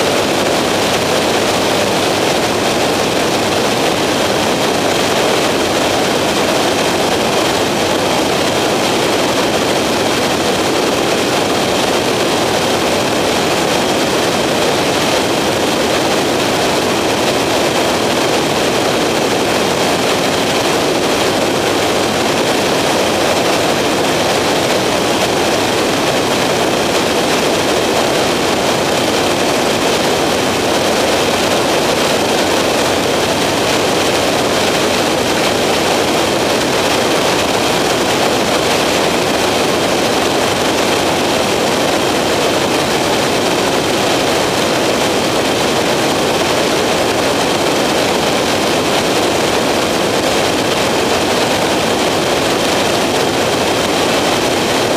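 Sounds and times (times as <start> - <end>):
aircraft engine drone: 0.0 - 54.9.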